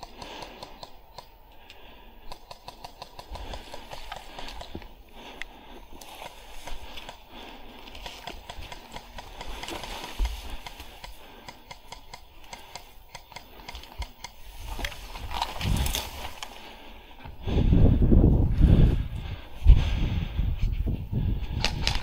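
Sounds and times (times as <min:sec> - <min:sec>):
grass and bushes rustling: 0:00.0 - 0:22.0.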